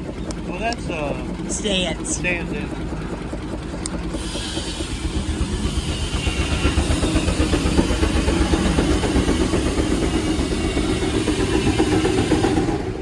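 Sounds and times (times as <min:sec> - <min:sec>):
steam engine and sawmill running: 0:00.0 - 0:13.0.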